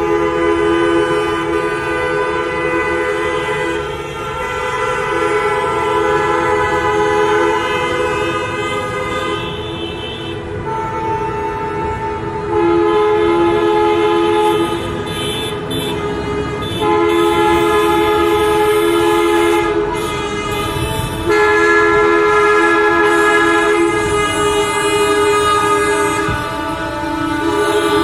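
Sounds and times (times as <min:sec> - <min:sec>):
coach horns blasting in chord: 0:00.0 - 0:28.0.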